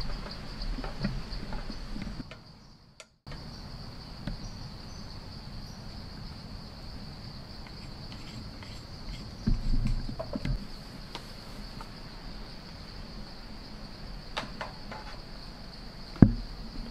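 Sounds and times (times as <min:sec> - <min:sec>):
high-pitched insect chorus: 0:00.0 - 0:16.9.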